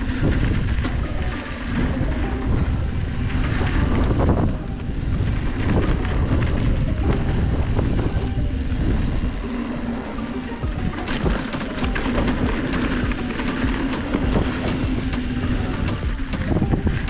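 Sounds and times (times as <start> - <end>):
bike rumbling on dirt trail: 0.0 - 17.0
wind buffeting microphone: 0.0 - 17.0.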